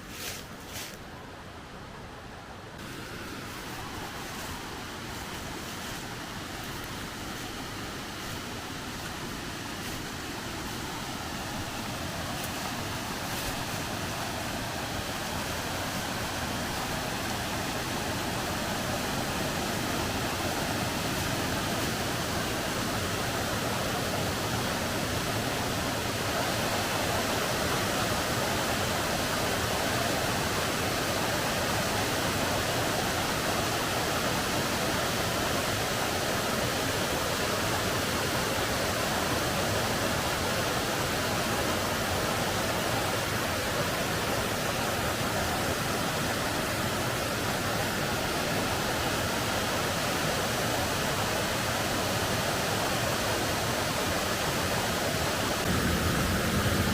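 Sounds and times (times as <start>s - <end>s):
waterfall rushing: 2.8s - 56.9s.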